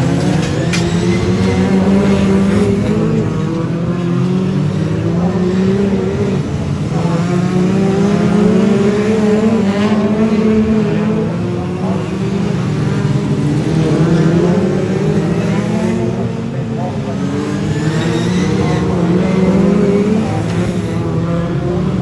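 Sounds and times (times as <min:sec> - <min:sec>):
stock car engines racing: 0:00.0 - 0:22.0.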